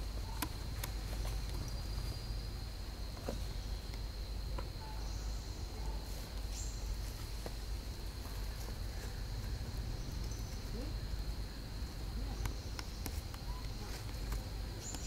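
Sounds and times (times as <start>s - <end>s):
high-pitched insect hum: 0.0s - 15.0s.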